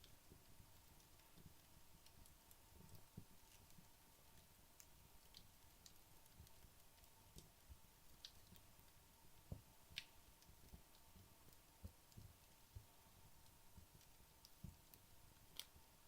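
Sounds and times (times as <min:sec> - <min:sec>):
faint hiss: 0:00.0 - 0:16.0
logs crackling in fireplace: 0:00.0 - 0:16.0.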